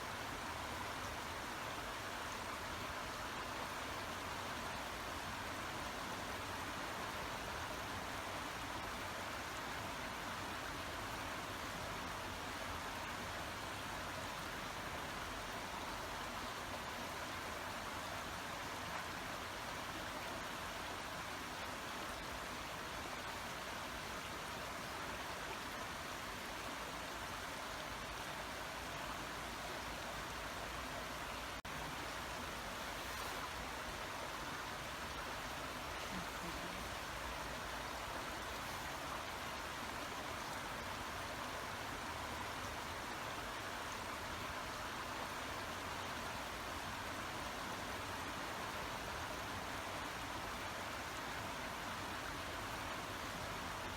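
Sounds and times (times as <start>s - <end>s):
brook babbling over stones: 0.0s - 53.9s.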